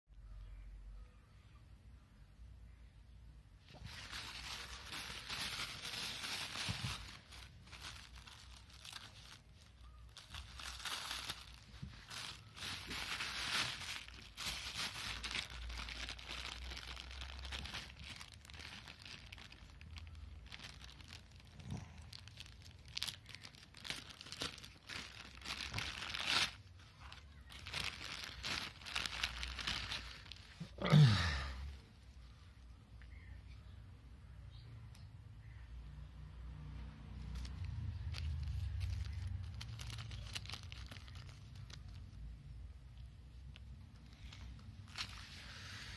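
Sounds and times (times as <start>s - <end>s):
plastic packaging crinkling and tearing: 3.6s - 32.2s, 37.0s - 45.9s.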